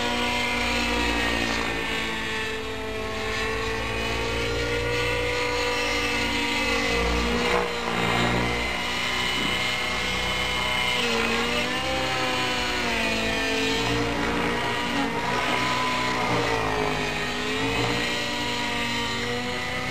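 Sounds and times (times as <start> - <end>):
model helicopter engine whine: 0.0 - 19.9.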